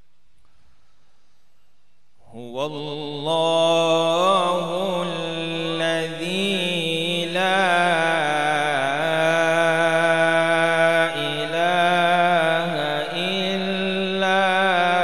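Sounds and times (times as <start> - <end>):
man chanting melodic recitation: 2.2 - 15.0.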